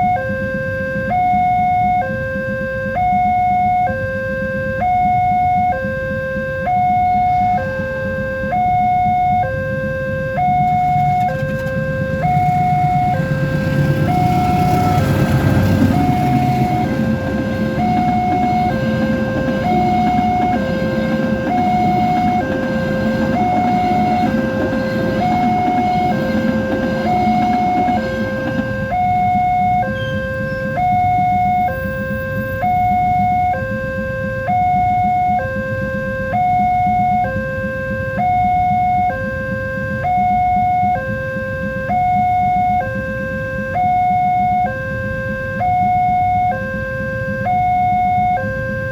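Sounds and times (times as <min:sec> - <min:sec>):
two-tone level crossing alarm: 0:00.0 - 0:48.9.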